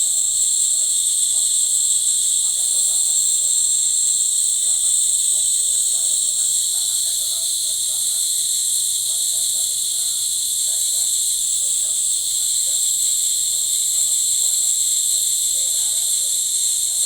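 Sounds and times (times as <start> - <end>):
nebulizer hissing: 0.0 - 17.0.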